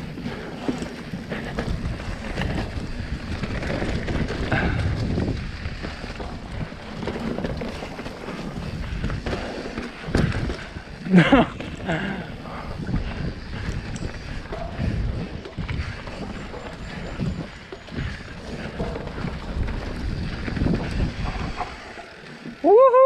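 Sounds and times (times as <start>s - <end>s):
wind buffeting microphone: 0.0s - 22.6s
bike clicks and rattles: 0.0s - 23.0s
bike tyres rumbling on dirt: 0.0s - 23.0s.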